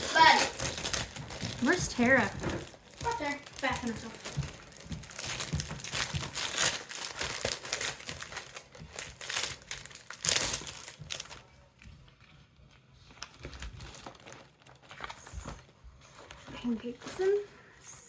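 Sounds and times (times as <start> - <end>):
plastic packaging crinkling: 0.0 - 17.5.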